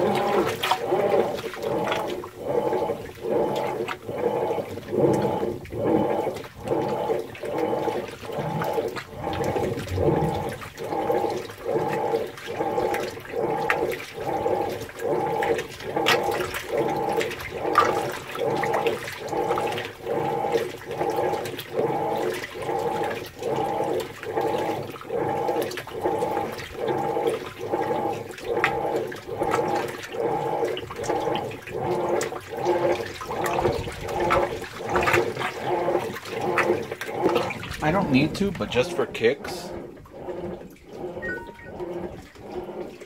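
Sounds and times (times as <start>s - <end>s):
washing machine agitating: 0.0s - 43.0s
water sloshing: 0.0s - 43.0s.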